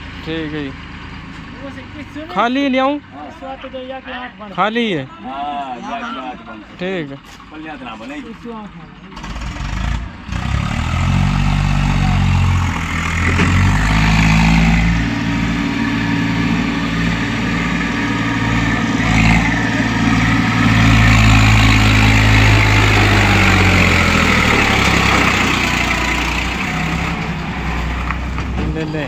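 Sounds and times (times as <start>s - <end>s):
tractor diesel engine running: 0.0s - 5.1s, 5.9s - 29.0s.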